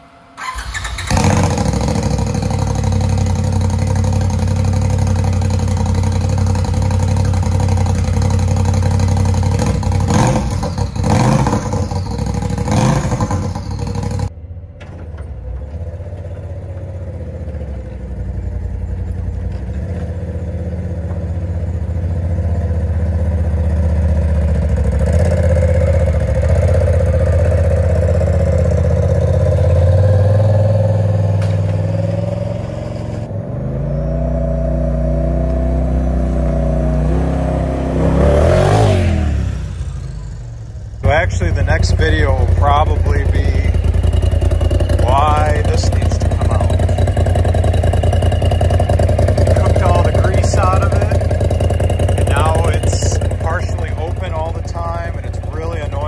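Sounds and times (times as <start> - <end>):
engine idling loudly: 0.0 - 14.4, 15.2 - 33.3, 38.4 - 56.0
engine throttle blips: 0.0 - 56.0.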